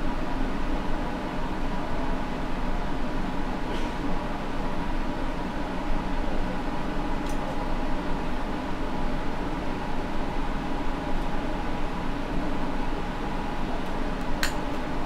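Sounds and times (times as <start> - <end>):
electric fan drone: 0.0 - 15.0.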